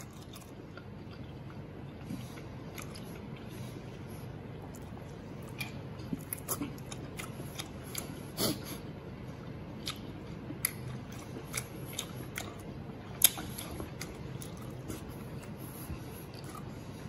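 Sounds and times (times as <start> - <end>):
wet chewing mouth sounds: 0.0 - 17.0.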